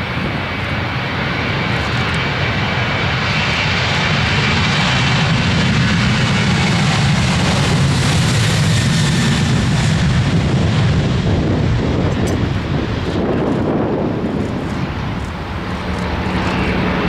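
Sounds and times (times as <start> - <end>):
airliner engines passing close: 0.0 - 17.0.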